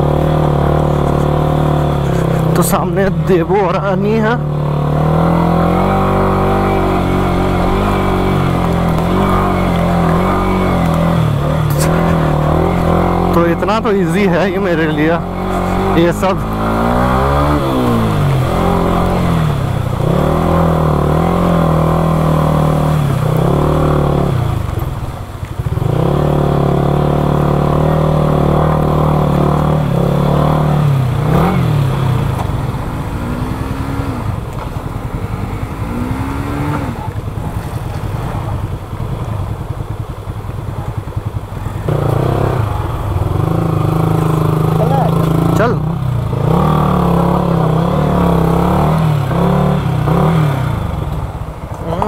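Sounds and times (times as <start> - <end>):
motorcycle engine running under load: 0.0 - 52.0.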